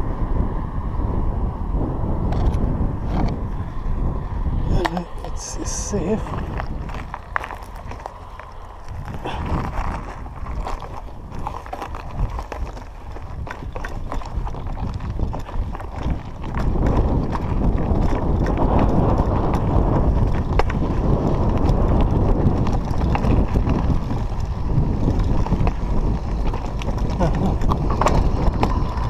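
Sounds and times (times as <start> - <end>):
bike tyres crunching over gravel: 2.2 - 29.0
bike rattling and knocking: 4.8 - 29.0.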